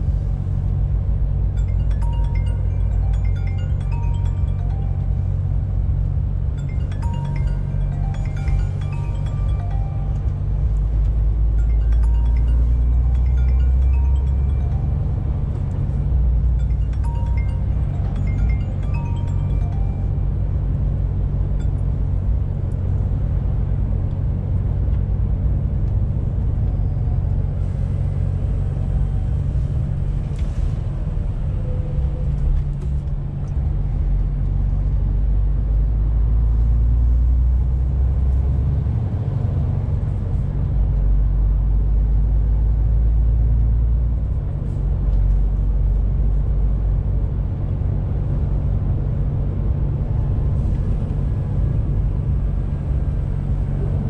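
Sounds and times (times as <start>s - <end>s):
road and tyre noise: 0.0s - 54.0s
truck diesel engine drone: 0.0s - 54.0s.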